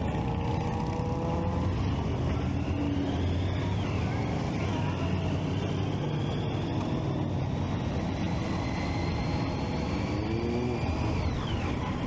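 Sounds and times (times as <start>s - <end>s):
motorcycle engine whining: 0.0s - 12.0s
wind and road noise: 0.0s - 12.0s.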